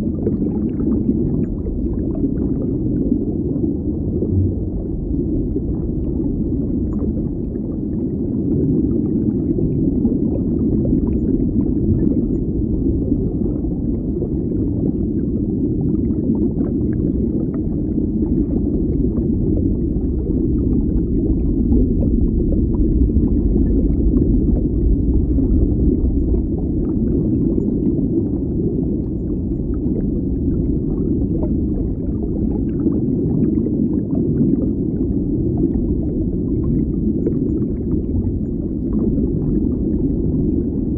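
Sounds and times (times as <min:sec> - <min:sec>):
muffled underwater rumble: 0:00.0 - 0:40.9.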